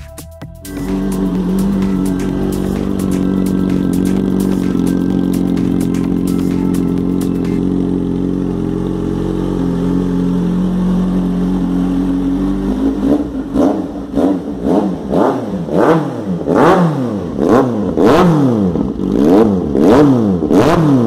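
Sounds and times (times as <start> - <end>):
motorcycle engine idling: 0.0 - 20.5.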